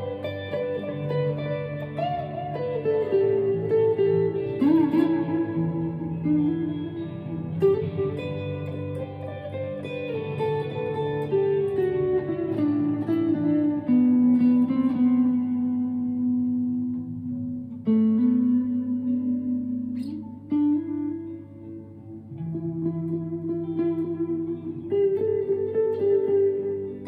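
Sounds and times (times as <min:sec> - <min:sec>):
ambient electric guitar notes: 0:00.0 - 0:27.0.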